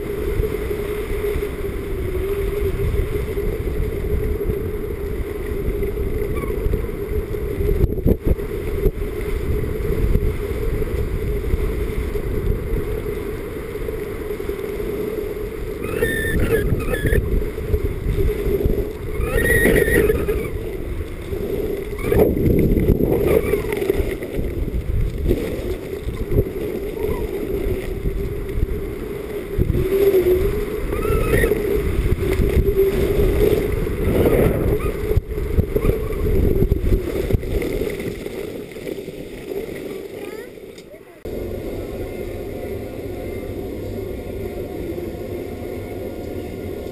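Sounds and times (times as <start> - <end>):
skis scraping over snow: 0.0 - 46.9
wind rushing over microphone: 0.0 - 46.9.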